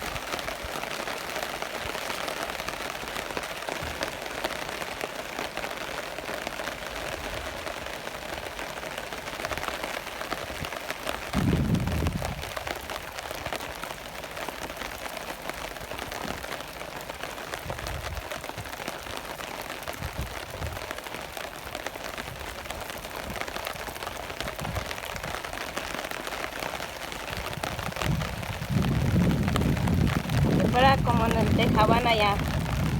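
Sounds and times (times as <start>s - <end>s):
rain pattering: 0.0s - 32.9s.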